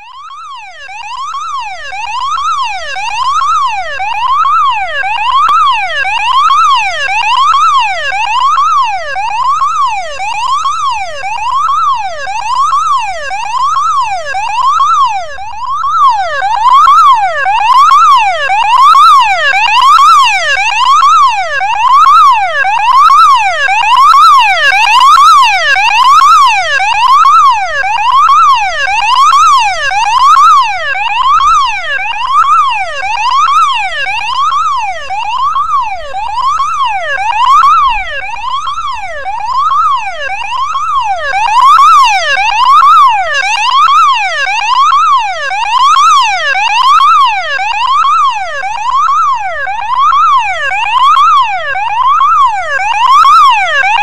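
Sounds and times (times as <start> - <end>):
car alarm siren wailing: 0.0 - 54.0.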